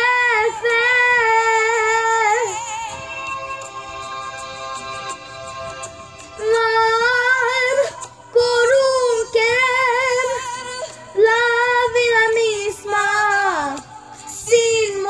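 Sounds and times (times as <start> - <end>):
girl singing with vibrato: 0.0 - 4.6, 6.3 - 15.0
quiet backing music: 0.0 - 15.0.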